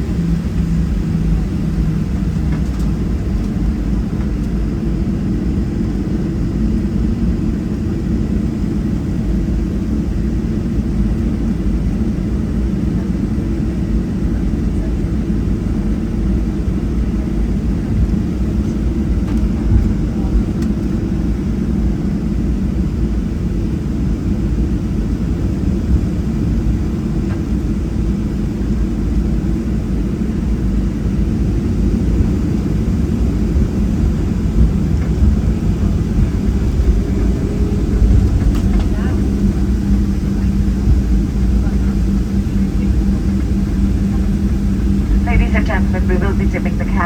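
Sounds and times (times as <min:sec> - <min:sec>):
airliner cabin rumble: 0:00.0 - 0:47.0.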